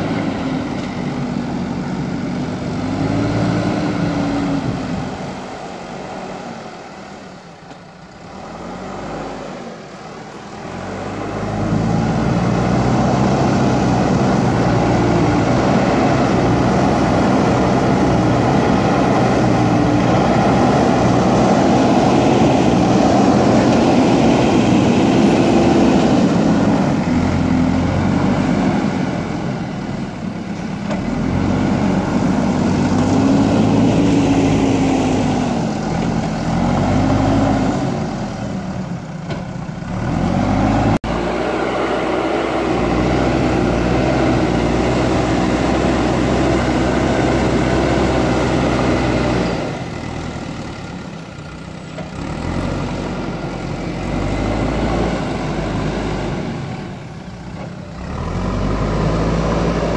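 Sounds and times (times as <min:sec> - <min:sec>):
diesel engine revving: 0:00.0 - 0:59.9
loader bucket working mud: 0:00.0 - 0:59.9.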